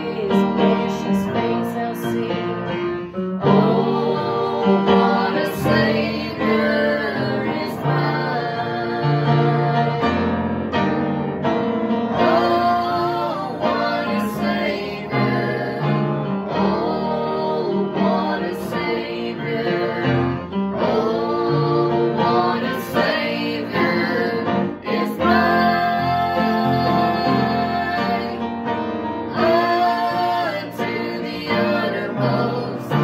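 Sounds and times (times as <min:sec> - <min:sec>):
women singing a hymn in harmony: 0:00.0 - 0:10.4, 0:12.1 - 0:33.0
upright piano: 0:00.0 - 0:33.0.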